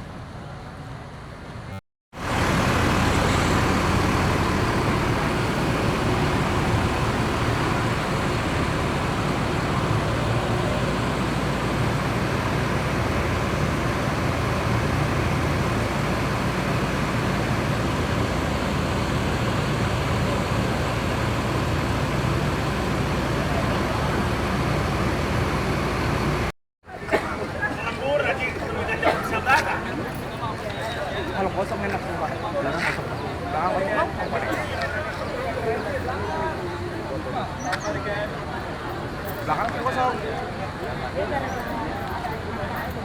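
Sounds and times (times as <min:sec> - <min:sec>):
bus engines rumbling: 0:00.0 - 0:43.0.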